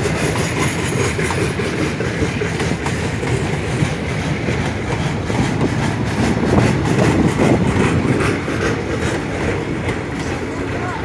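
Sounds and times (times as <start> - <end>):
train rumbling past: 0.0 - 11.0
wheels clicking on rails: 0.0 - 11.0.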